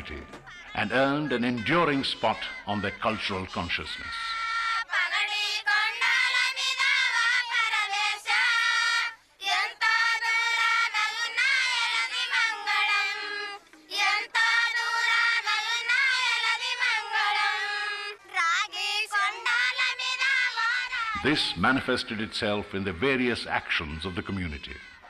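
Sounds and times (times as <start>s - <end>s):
women singing a folk song: 0.0s - 21.8s.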